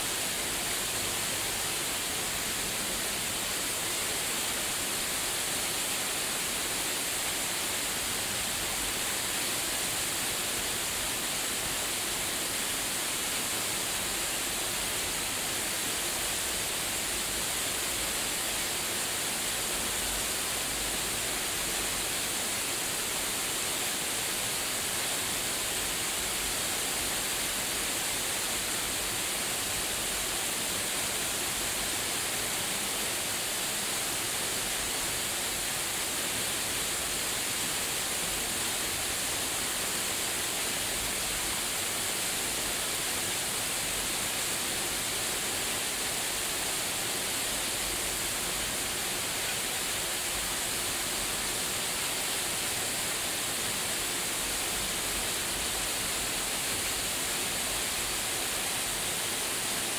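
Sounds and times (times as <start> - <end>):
waterfall pouring into a pool: 0.0 - 59.9.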